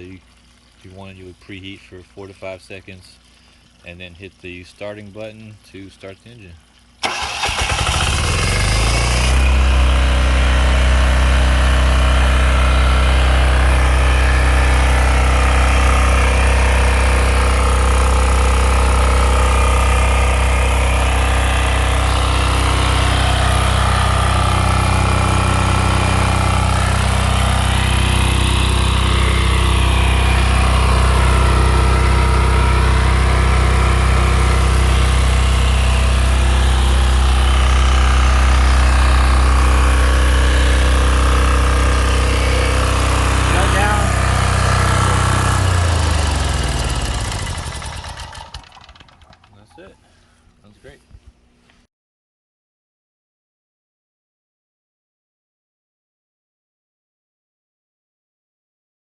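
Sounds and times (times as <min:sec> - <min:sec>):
diesel pump engine running: 0:00.0 - 0:05.4, 0:06.7 - 0:50.5
water running through pump: 0:00.0 - 0:49.9.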